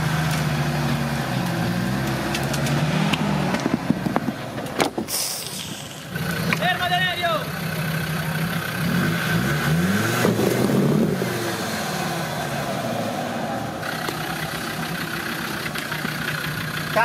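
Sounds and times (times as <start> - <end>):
engine revving: 0.0 - 4.1, 6.1 - 17.0.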